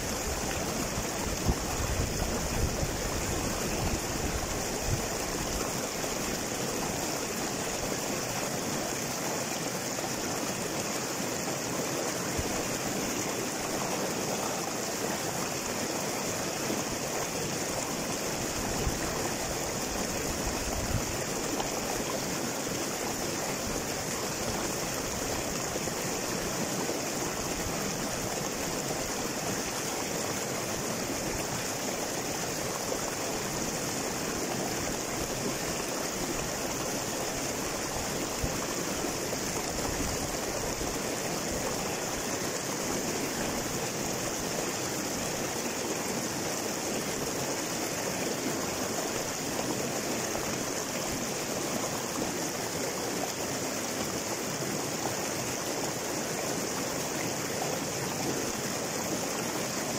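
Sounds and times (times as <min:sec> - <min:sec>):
river rushing over boulders: 0:00.0 - 0:59.9.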